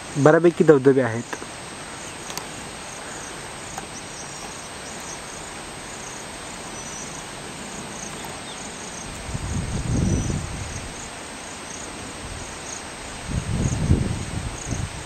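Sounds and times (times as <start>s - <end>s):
insects chirping: 0.0s - 15.0s
outdoor hiss: 0.0s - 15.0s.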